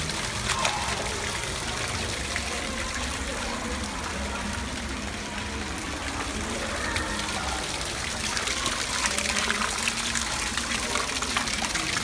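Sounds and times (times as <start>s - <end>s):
fountain water jet spraying: 0.0s - 12.0s
water splashing: 0.0s - 12.0s.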